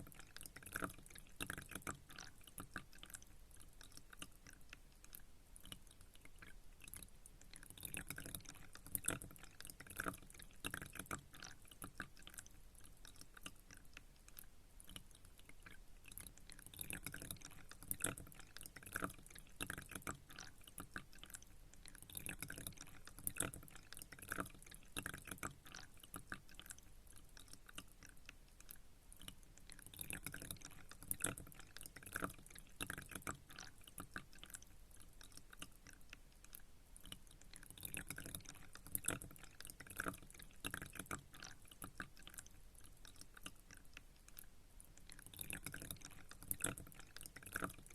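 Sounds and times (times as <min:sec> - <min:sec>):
water trickling and dripping: 0:00.0 - 0:47.9.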